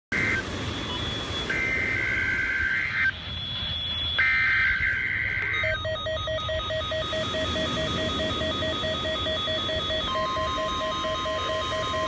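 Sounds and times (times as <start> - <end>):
radio hiss: 0.1 - 12.0
rapid pulsed beeping: 0.1 - 12.0
warbling two-tone data bursts: 0.1 - 12.0.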